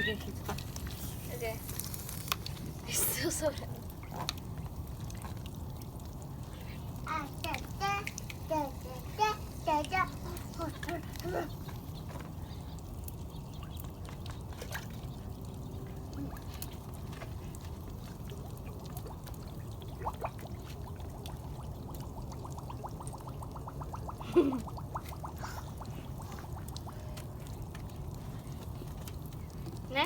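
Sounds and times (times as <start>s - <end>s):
liquid pouring into a bottle: 0.1s - 30.0s.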